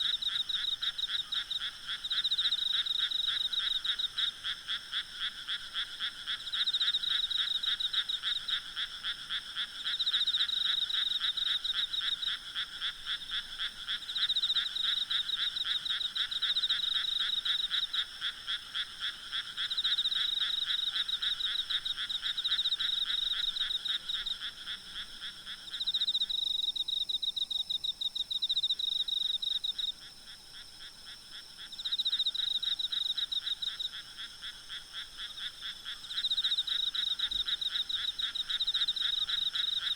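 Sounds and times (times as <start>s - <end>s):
frogs calling: 0.0s - 39.9s
insects calling: 0.0s - 39.9s.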